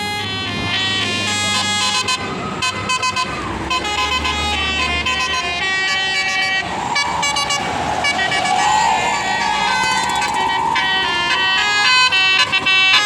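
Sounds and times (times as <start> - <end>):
bus musical horn playing tune: 0.0 - 13.0.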